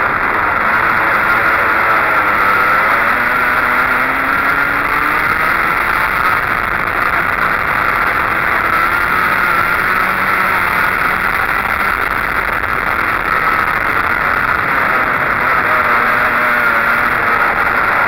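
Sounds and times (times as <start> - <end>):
go-kart engine running hard: 0.0 - 18.0.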